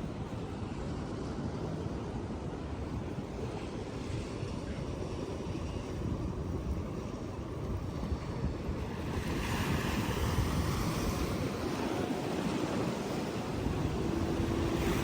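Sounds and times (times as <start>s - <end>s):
sea waves washing onto beach: 0.0s - 15.0s
wind buffeting microphone: 0.0s - 15.0s.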